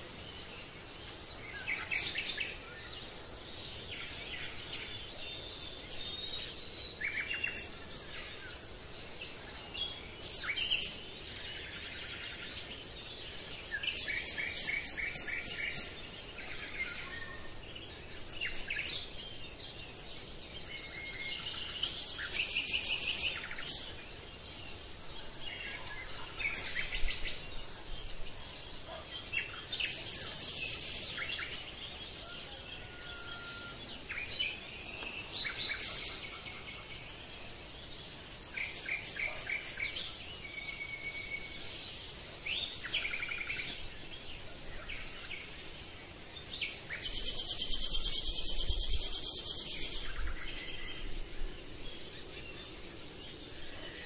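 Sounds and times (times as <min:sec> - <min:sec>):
birds singing and chirping: 0:00.0 - 0:54.0
faint steady hiss: 0:00.0 - 0:54.0.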